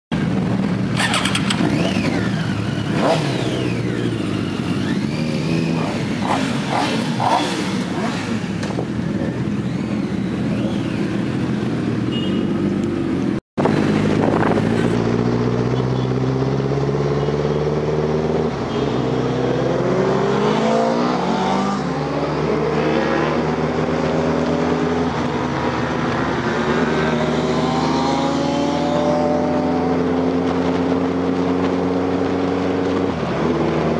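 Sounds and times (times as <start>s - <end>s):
traffic noise: 0.1s - 33.9s
motorbike accelerating through gears: 0.2s - 33.9s
motorbike engines revving: 0.2s - 33.9s.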